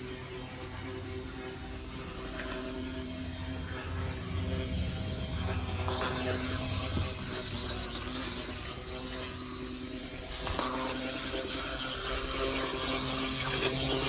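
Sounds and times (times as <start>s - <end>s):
model wheels on rails: 0.0s - 14.0s
small electric motor whining: 0.0s - 14.0s.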